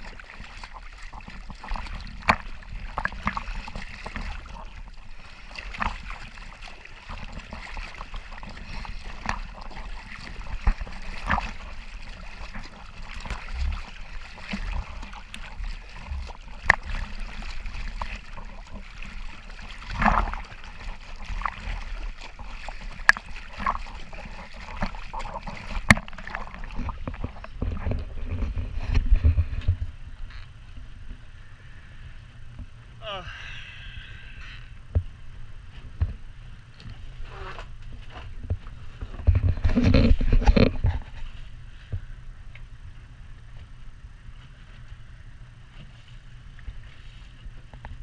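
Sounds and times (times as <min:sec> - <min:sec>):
seawater splashing and sloshing: 0:00.0 - 0:33.1, 0:34.8 - 0:48.0.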